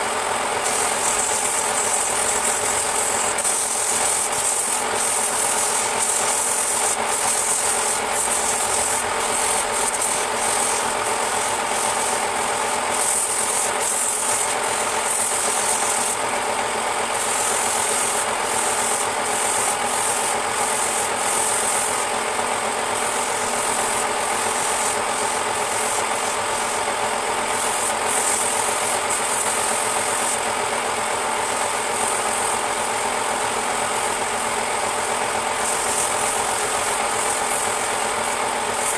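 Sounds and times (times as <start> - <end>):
turning tool scraping wood: 0.0 - 38.9
wood lathe humming and rattling: 0.0 - 38.9.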